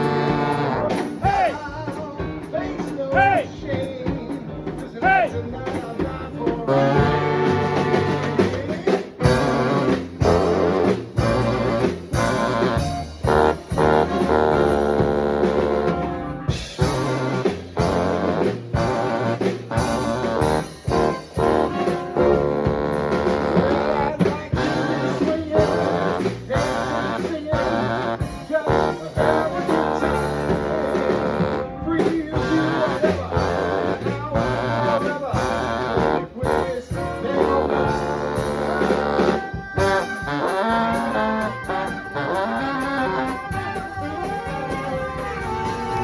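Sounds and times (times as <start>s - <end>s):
swing band playing dance music: 0.0s - 46.0s.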